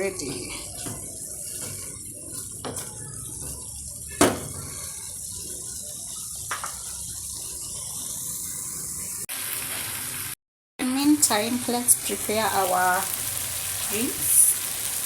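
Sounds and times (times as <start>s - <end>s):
stew sizzling in a pot: 0.0s - 15.0s.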